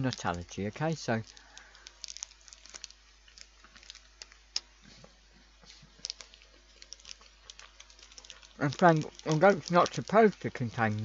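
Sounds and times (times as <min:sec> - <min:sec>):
biting and chewing biscuit bar: 0:00.0 - 0:11.0.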